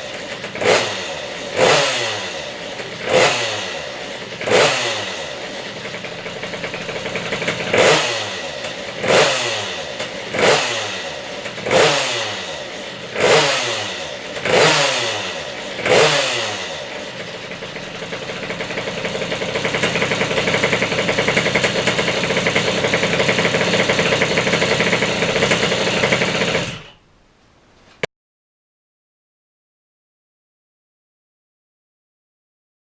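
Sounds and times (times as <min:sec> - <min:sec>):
minibike engine revving: 0:00.0 - 0:27.0.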